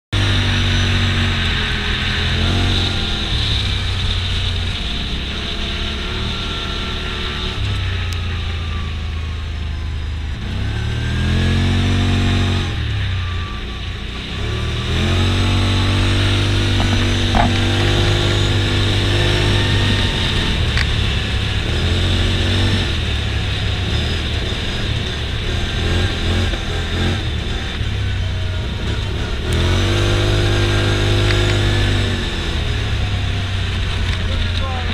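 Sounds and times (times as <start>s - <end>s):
engine revving: 0.1s - 34.9s.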